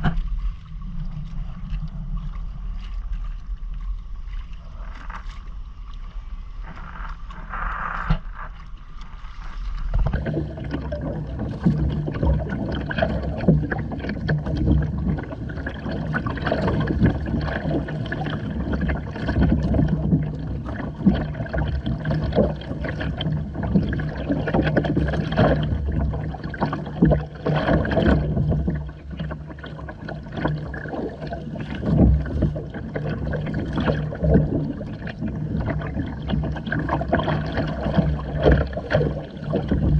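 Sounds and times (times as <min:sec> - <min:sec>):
steady low hum: 0:00.0 - 0:39.9
water splashing against hull: 0:00.0 - 0:39.9.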